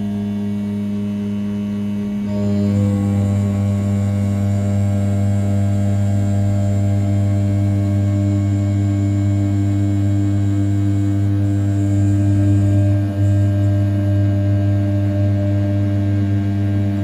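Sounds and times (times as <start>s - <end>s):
milling spindle humming: 0.0s - 17.0s.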